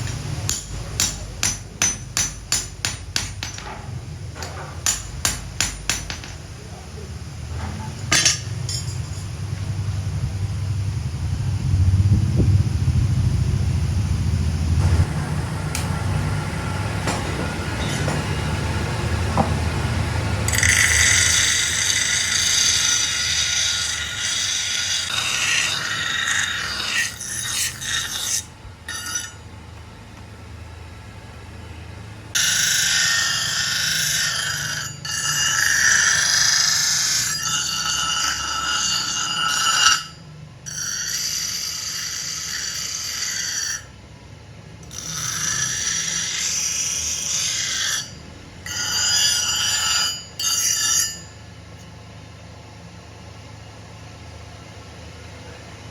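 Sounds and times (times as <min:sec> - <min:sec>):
harsh grinding with ringing tones: 0:00.0 - 0:54.3
low machinery rumble: 0:00.0 - 0:55.9.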